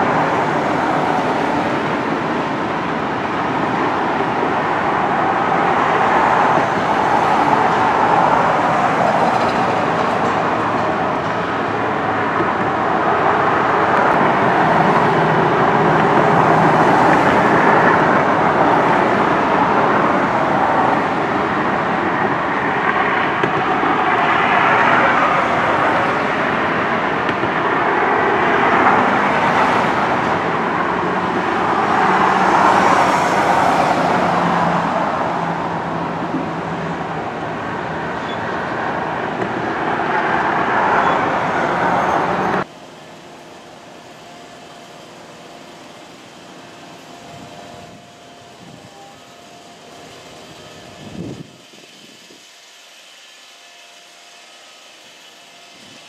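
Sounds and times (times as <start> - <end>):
steady traffic noise: 0.0 - 56.0.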